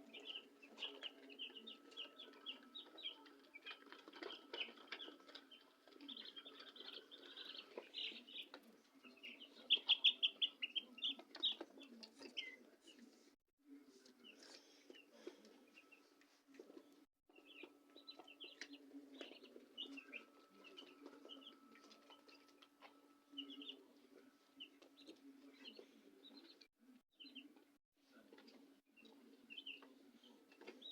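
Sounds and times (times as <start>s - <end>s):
chicks peeping: 0.0s - 13.2s, 13.9s - 30.9s.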